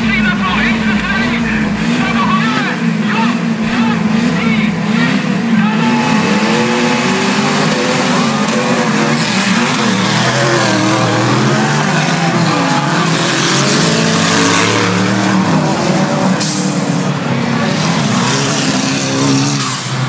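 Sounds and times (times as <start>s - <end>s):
off-road vehicle engines revving: 0.0s - 20.0s.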